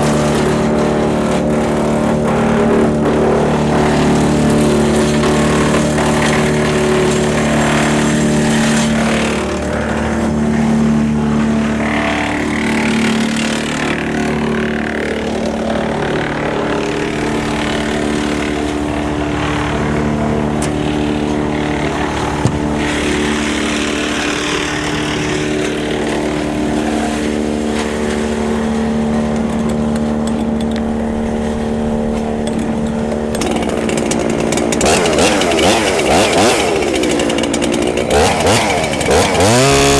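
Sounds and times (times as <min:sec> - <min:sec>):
tractor engine running: 0:00.0 - 0:39.9
wood chipper: 0:00.0 - 0:39.9.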